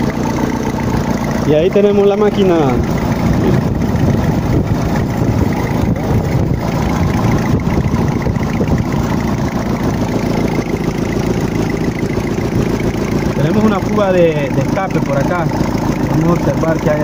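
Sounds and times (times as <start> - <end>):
gasoline engine idling: 0.0 - 17.0.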